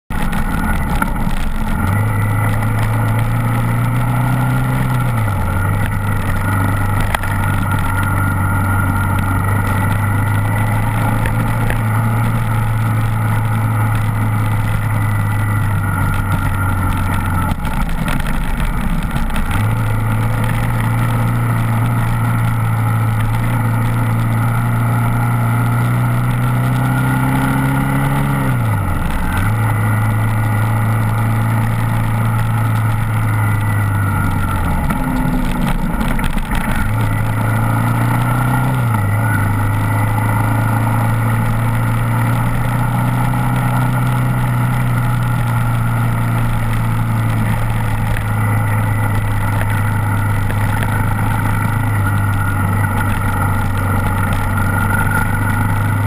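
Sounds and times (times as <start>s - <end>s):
motorcycle engine revving: 0.1s - 56.0s
tyre noise on gravel: 0.1s - 56.0s.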